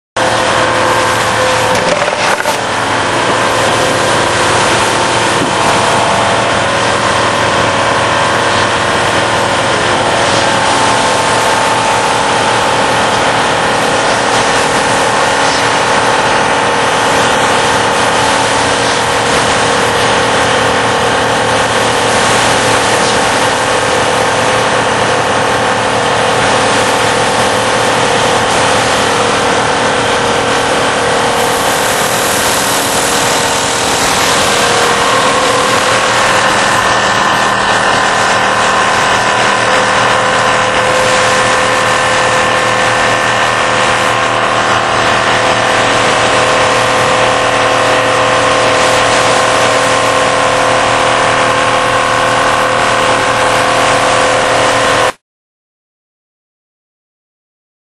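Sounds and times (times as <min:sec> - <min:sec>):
foam cutting machine whine: 0:00.2 - 0:55.2.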